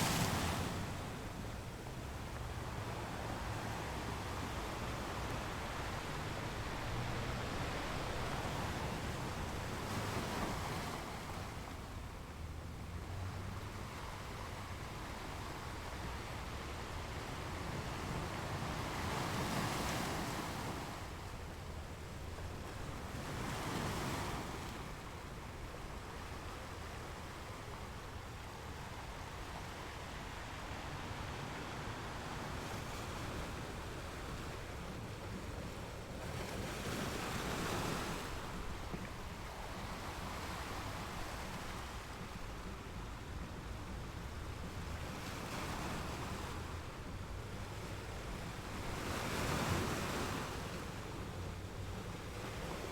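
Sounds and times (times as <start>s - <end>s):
ocean waves on shore: 0.0s - 52.9s.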